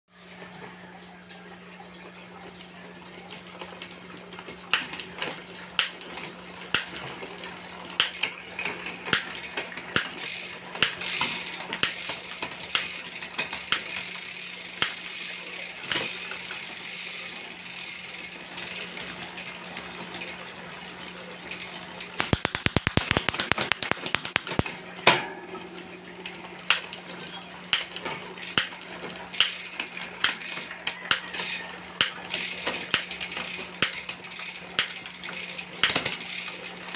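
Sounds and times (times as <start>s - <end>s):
bicycle chain running over cassette: 3.5s - 24.7s, 26.2s - 36.9s.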